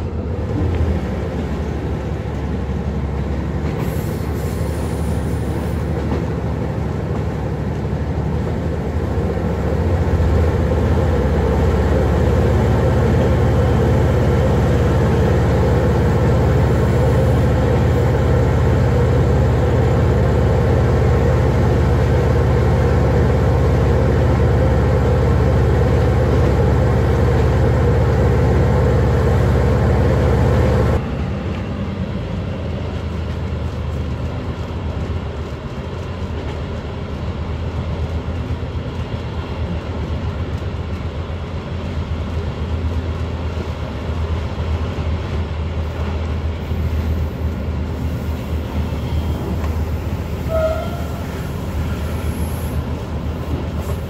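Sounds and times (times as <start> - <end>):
diesel train engine drone: 0.0 - 54.0
train wheel noise: 0.0 - 54.0.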